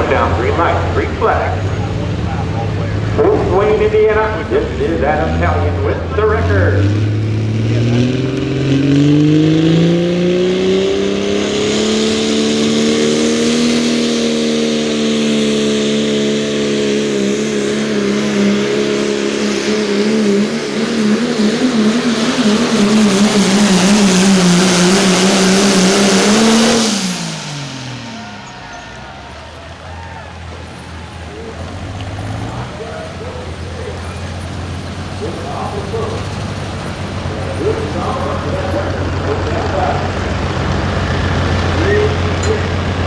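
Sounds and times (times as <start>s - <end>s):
diesel engine at full throttle: 0.0s - 43.0s.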